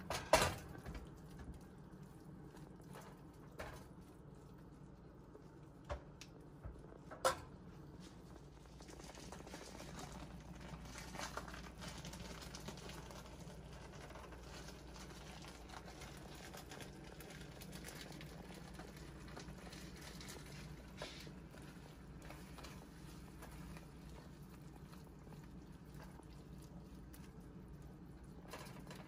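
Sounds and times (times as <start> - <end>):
sauce bubbling in skillet: 0.0 - 29.0.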